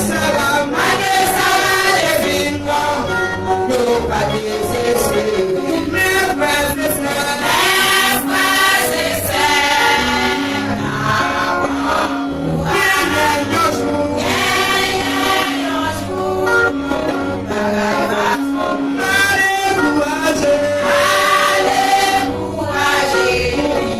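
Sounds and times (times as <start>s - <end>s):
choir singing a hymn: 0.0s - 23.9s.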